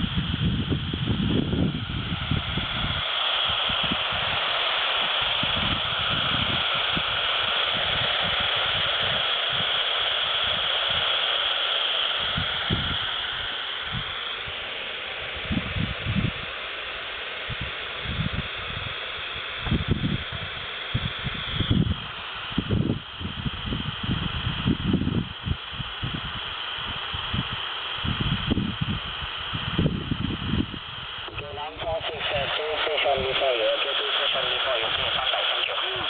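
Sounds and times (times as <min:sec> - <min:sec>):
radio static hiss: 0:00.0 - 0:36.0.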